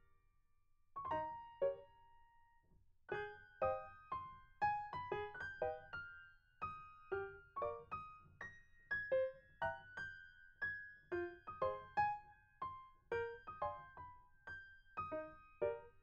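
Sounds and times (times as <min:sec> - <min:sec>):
slow gentle keyboard melody: 0:01.0 - 0:16.0.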